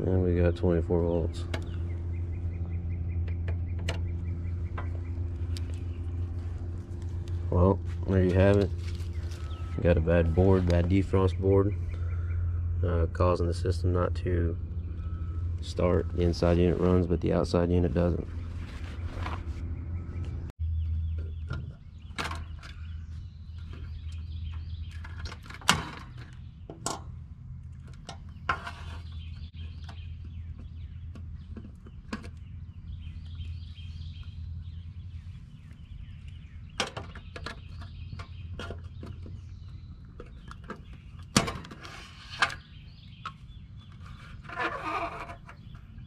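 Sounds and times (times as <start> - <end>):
birds chirping: 0.0 - 46.0
steady low hum: 0.0 - 46.0.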